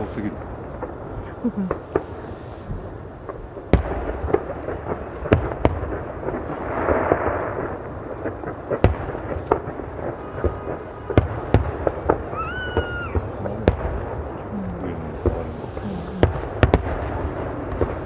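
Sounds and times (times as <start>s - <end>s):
fireworks booming: 0.0s - 18.0s
rushing crackle of fireworks: 0.0s - 18.0s.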